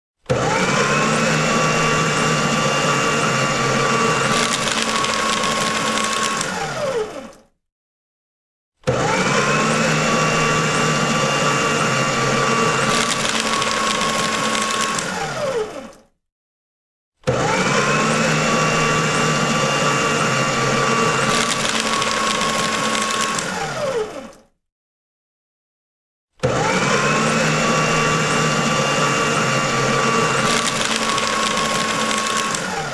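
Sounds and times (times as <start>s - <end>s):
paper shredder motor whining: 0.2s - 7.6s, 8.8s - 16.2s, 17.2s - 24.6s, 26.4s - 32.9s.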